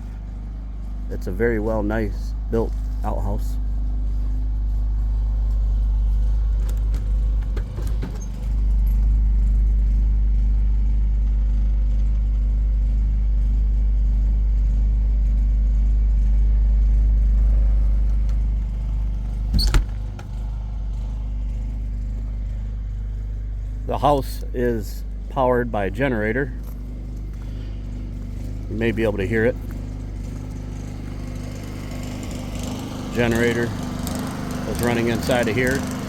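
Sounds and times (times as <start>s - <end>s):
generator engine humming: 0.0s - 11.0s, 15.6s - 36.0s.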